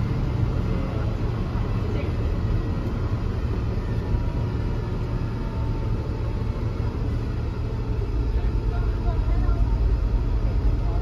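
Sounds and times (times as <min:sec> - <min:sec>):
bus diesel engine rumbling: 0:00.0 - 0:11.0.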